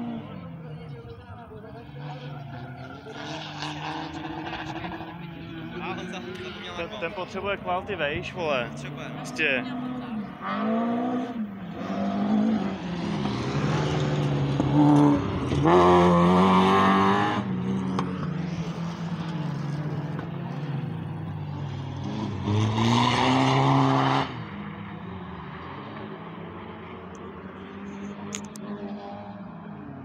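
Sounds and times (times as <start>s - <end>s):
race car engines revving past: 0.0s - 30.0s.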